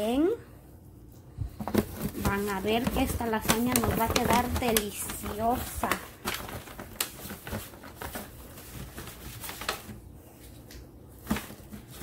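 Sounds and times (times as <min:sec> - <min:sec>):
foil pan rustling: 0:01.5 - 0:10.4, 0:11.2 - 0:12.0.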